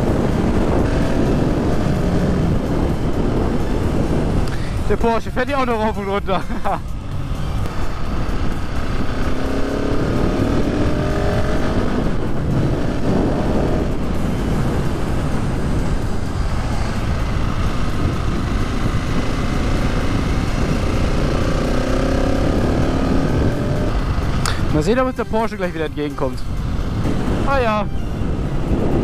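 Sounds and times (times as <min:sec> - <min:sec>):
motorcycle engine accelerating: 0:00.0 - 0:29.0
steady rushing noise: 0:00.0 - 0:29.0.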